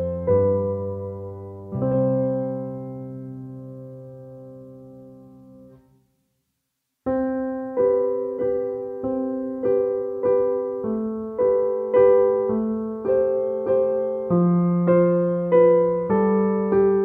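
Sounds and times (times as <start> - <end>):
piano music: 0.0 - 5.9, 7.1 - 17.0.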